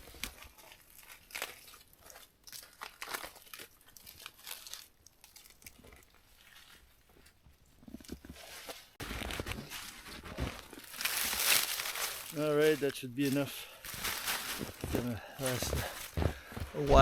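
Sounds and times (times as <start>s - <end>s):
bark tearing: 0.0s - 7.3s, 7.9s - 16.6s
bark crinkling crackles: 0.0s - 17.0s.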